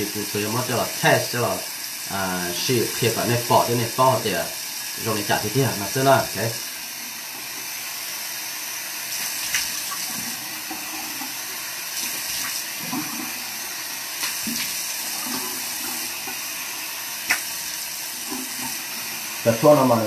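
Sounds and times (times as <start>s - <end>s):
tap water running into sink: 0.0s - 20.0s.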